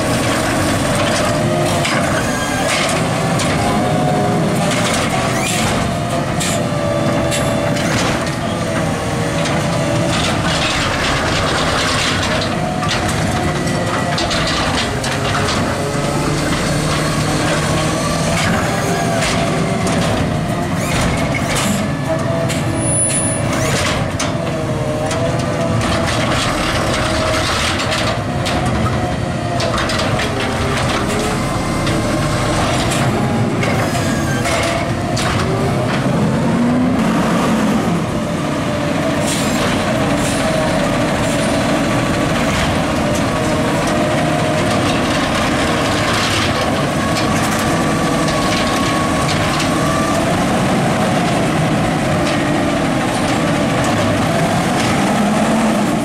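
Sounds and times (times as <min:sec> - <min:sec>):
clanks and bangs of carts: 0:00.0 - 0:56.0
garbage truck engine running: 0:00.0 - 0:56.0.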